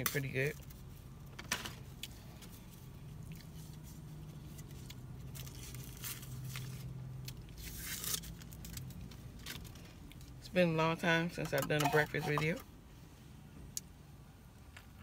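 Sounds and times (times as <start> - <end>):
low hum inside car: 0.1 - 15.0.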